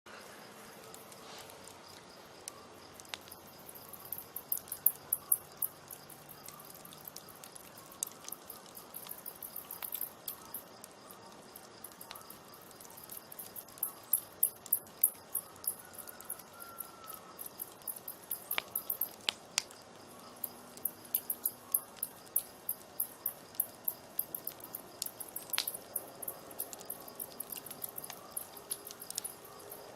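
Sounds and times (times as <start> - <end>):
campfire crackling: 0.1 - 29.9
sharp pops of fire: 0.8 - 15.2, 17.1 - 29.6.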